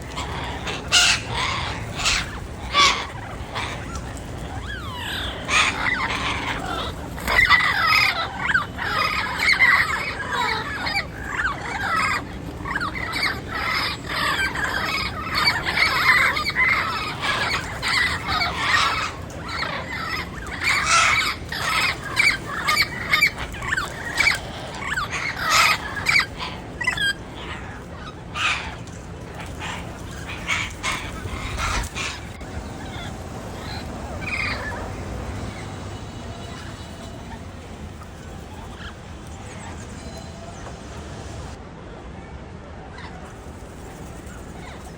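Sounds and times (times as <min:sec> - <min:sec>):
parrots squawking and chattering: 0:00.0 - 0:41.6, 0:43.3 - 0:44.9.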